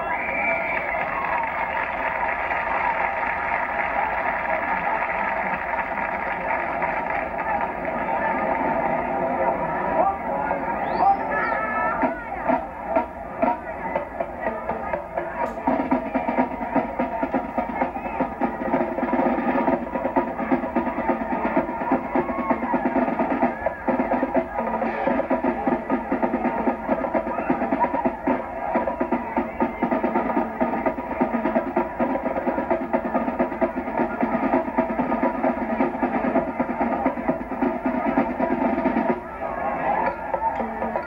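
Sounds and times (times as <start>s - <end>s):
drumline on snare and bass drums: 0.0s - 41.0s.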